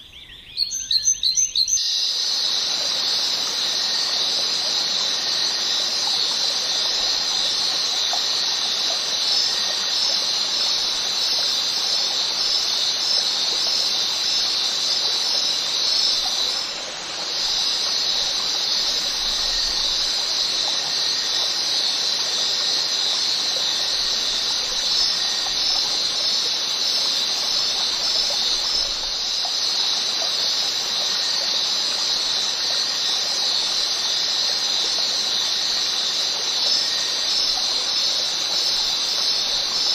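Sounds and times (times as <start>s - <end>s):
high-pitched hiss: 1.7s - 39.9s.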